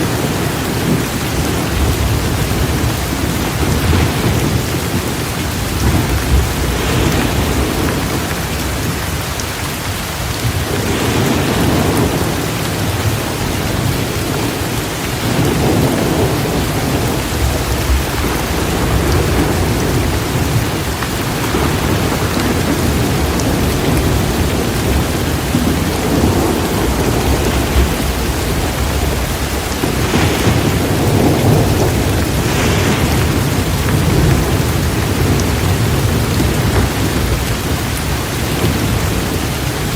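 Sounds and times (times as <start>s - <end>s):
low thunder rumbling: 0.0s - 39.9s
torrential rain pouring: 0.0s - 39.9s.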